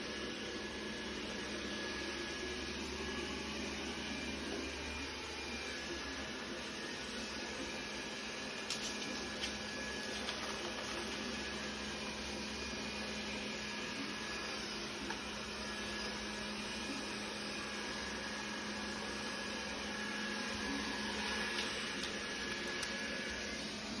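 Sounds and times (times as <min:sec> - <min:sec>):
robot vacuum cleaner whirring: 0:00.0 - 0:24.0.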